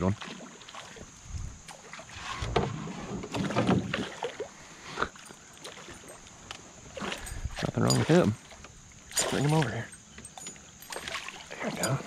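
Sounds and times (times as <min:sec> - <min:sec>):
fish splashing and thrashing: 0:00.0 - 0:12.0.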